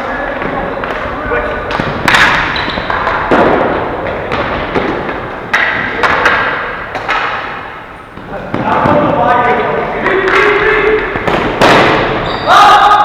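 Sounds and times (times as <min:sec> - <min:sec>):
ball and sticks knocking boards: 0:00.0 - 0:12.5.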